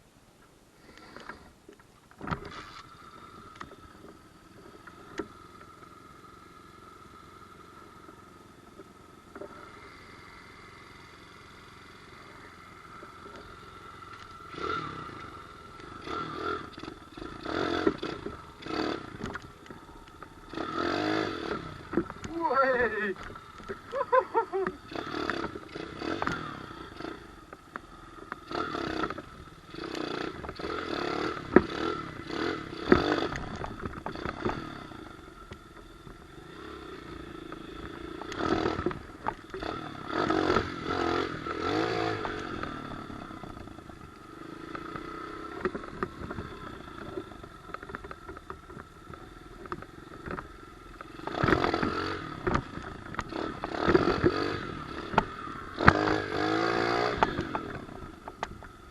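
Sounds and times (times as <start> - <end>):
motorbike engine revving: 2.2 - 58.9.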